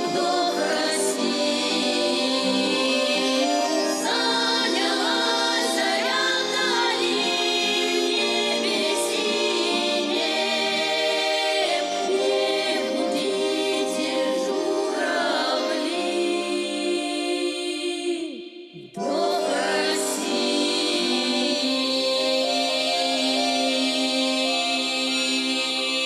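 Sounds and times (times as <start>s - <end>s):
folk ensemble singing in harmony: 0.0s - 26.0s
sustained accompaniment: 0.0s - 26.0s.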